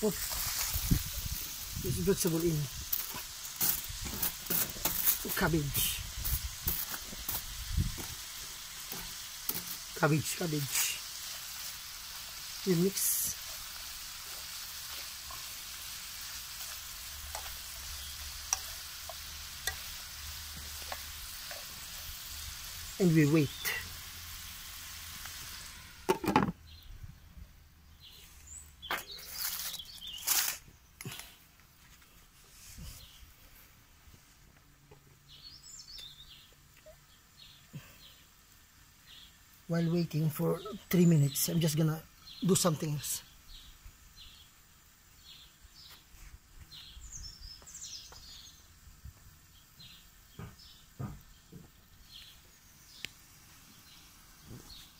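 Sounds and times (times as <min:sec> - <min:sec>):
small birds chirping: 0:00.0 - 0:25.6, 0:26.5 - 0:33.7, 0:34.9 - 0:54.9
food sizzling in a frying pan: 0:00.0 - 0:26.8, 0:35.2 - 0:54.9.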